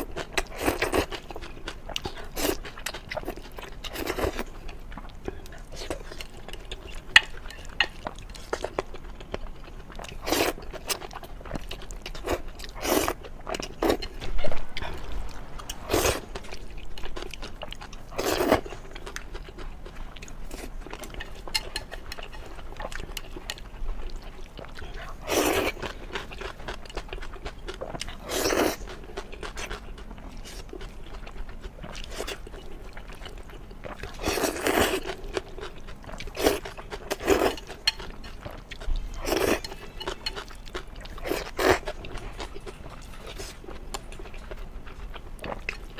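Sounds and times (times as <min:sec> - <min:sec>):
person chewing: 0:00.0 - 0:45.9.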